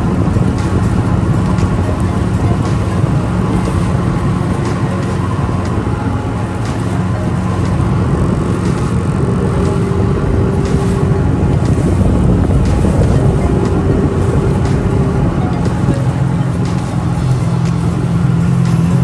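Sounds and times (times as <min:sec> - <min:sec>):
engine droning steadily: 0:00.0 - 0:19.0.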